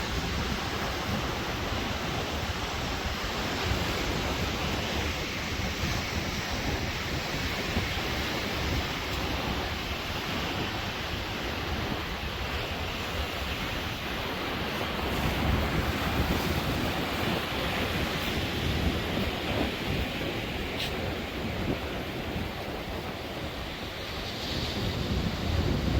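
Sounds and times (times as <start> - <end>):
sea waves washing on shore: 0.0 - 25.9
wind buffeting microphone: 0.0 - 25.9.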